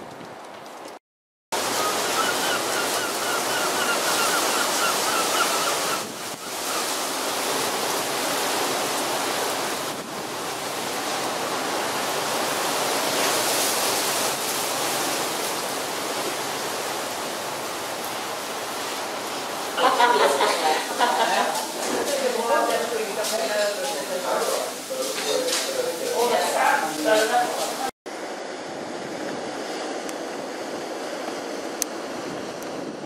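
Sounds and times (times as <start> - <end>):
strong wind and choppy water: 1.6 - 33.0.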